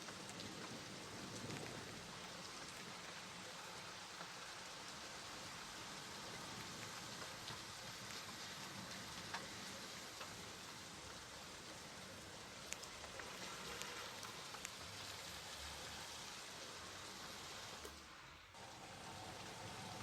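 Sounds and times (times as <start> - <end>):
steady rain hissing: 0.0 - 20.0.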